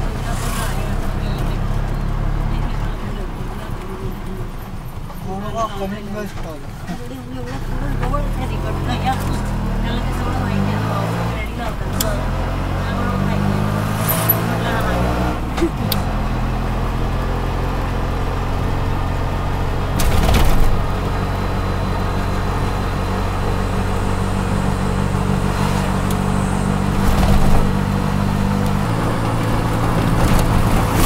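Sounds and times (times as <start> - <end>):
autorickshaw engine running: 0.0 - 31.0
road noise: 0.0 - 31.0.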